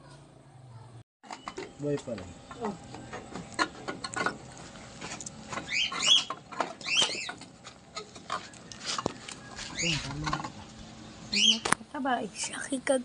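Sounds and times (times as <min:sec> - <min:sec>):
high squeaking: 0:01.2 - 0:11.7.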